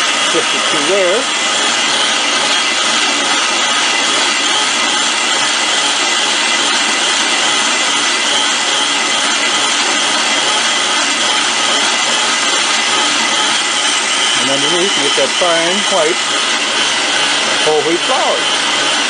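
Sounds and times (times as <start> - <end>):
electric grain mill grinding: 0.0 - 19.0.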